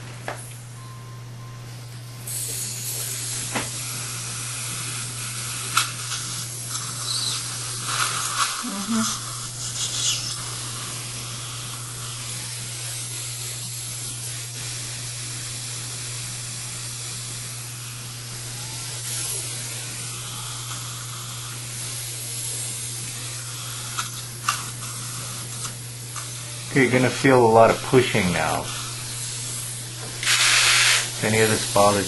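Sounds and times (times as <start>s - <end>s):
steady hiss: 2.2s - 32.0s.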